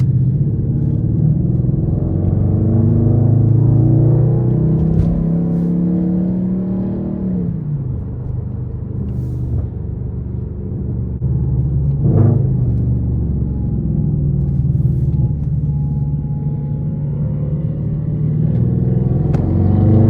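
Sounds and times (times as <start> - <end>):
car exhaust running: 0.0 - 20.0.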